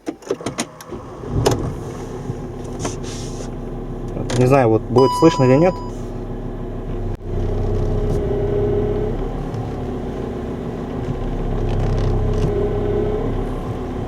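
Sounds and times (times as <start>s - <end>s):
power steering pump whine: 0.4s - 14.0s
car engine idling: 0.8s - 14.0s.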